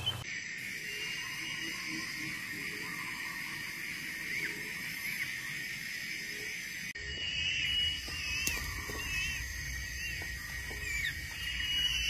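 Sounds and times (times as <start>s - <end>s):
high insect drone: 0.0s - 12.0s
whistled bird calls: 0.0s - 12.0s.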